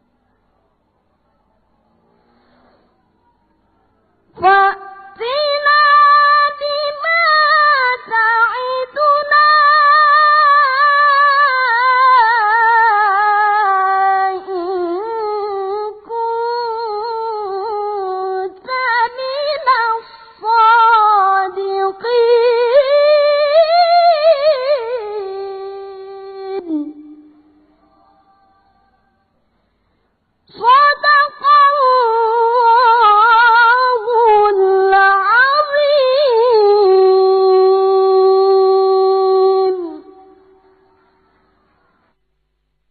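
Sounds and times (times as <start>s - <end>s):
boy chanting recitation: 4.3s - 29.0s, 30.5s - 42.1s.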